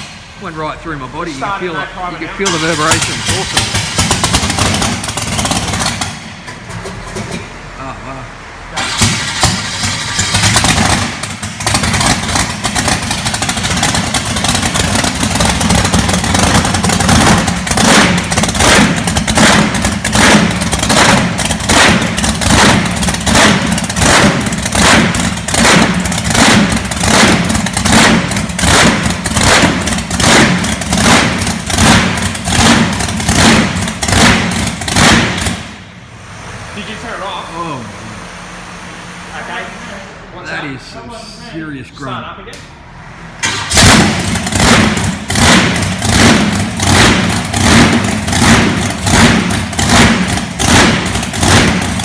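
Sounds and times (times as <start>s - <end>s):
loud truck engine surging: 0.0s - 52.0s.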